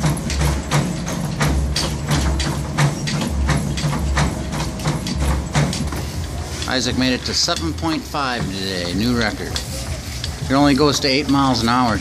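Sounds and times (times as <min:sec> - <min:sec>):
footfalls on treadmill belt: 0:00.0 - 0:12.0.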